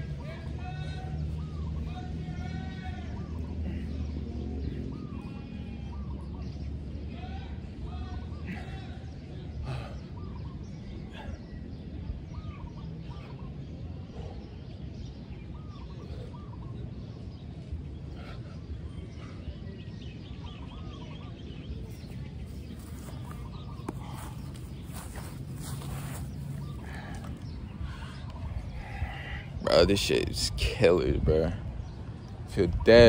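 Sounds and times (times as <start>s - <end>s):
birds calling: 0.0s - 33.0s.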